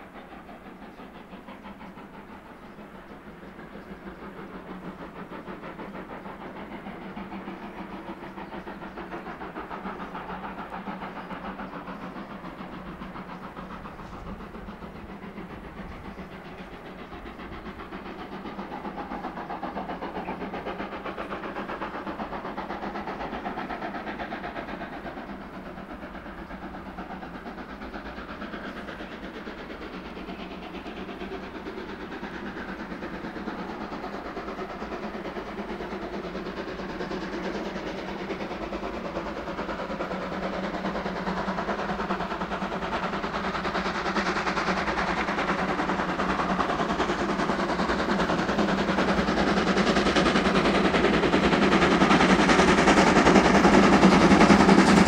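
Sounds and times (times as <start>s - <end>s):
hiss of steam: 0.0s - 55.0s
steam locomotive exhaust beats: 0.0s - 55.0s.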